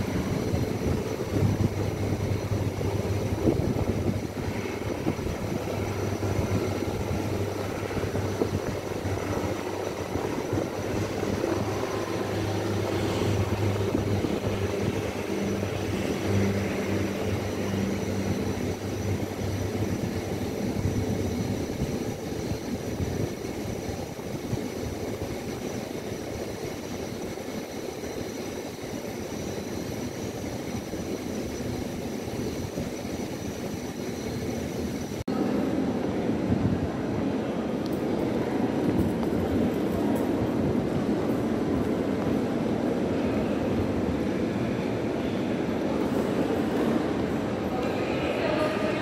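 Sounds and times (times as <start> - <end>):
turboprop engines droning: 0.0 - 49.0.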